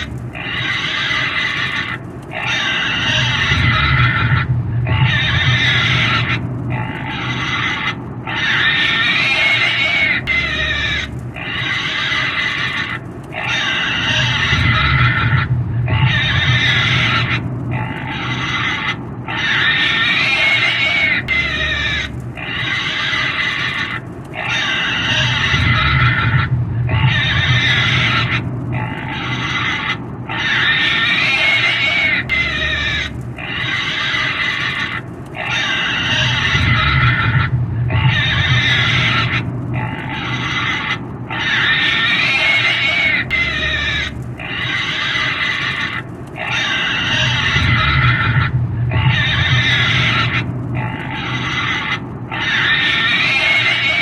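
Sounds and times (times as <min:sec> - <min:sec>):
pig squealing: 0:00.0 - 0:54.0.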